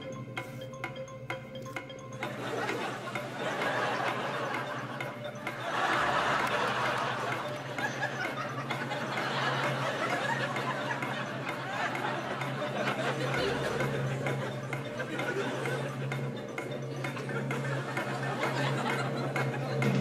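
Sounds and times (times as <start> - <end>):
studio audience laughing: 2.3 - 20.0.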